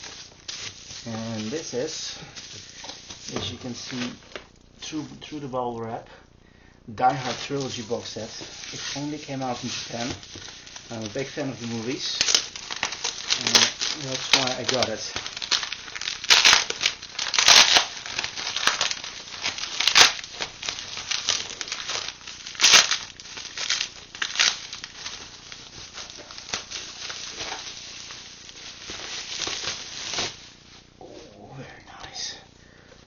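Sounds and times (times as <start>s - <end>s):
bubble wrap crinkling: 0.0s - 5.5s, 7.0s - 32.4s.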